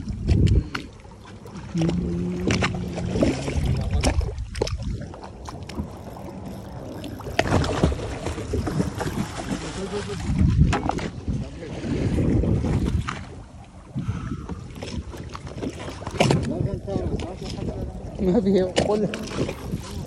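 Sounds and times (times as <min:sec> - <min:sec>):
wind noise: 0:00.0 - 0:00.9, 0:01.7 - 0:20.0
water splashing against boat: 0:00.0 - 0:20.0.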